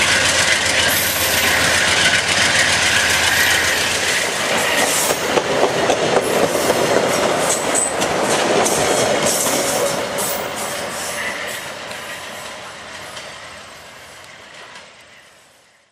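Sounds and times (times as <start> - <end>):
passenger train wheels clattering: 0.0 - 15.5.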